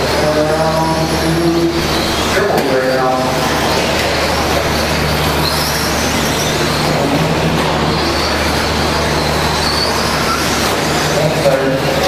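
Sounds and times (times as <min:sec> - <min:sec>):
high motor whine: 0:00.0 - 0:12.0.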